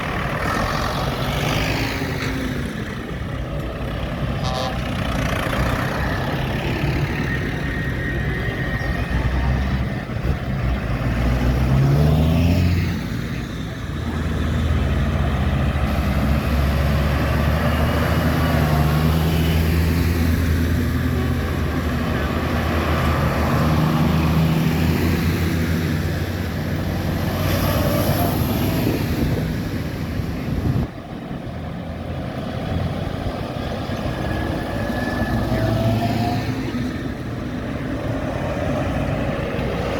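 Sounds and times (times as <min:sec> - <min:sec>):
tractors driving past: 0:00.0 - 0:39.9.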